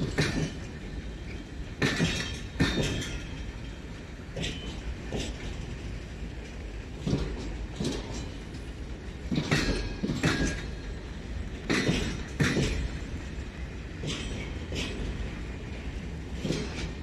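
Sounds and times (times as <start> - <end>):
railway cars rumbling: 0.0 - 17.0
wheels clanking over track: 0.0 - 17.0.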